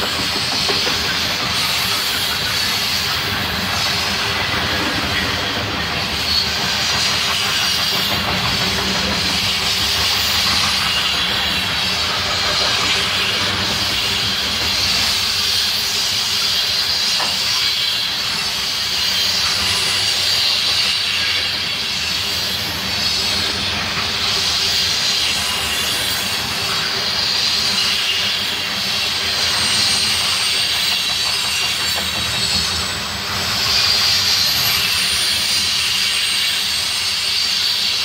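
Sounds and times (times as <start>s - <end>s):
freight train wheels rolling on rail: 0.0s - 38.0s.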